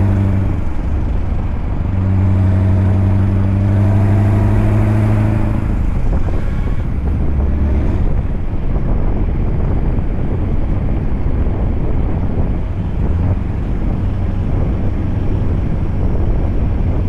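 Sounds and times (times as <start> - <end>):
truck engine drone: 0.0 - 17.0
wind buffeting microphone: 0.0 - 17.0.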